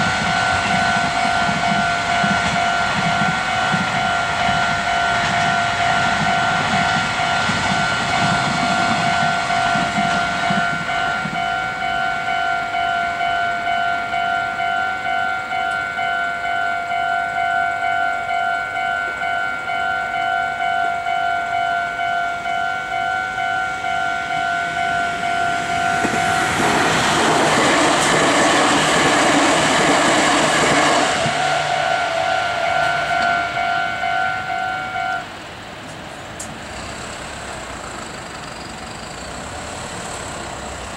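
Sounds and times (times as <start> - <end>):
level crossing warning bell: 0.0 - 35.6
electric train passing: 0.0 - 40.9.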